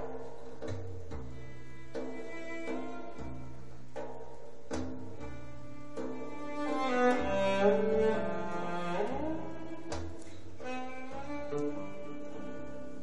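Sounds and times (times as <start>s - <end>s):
cello-led orchestral music: 0.0s - 13.0s.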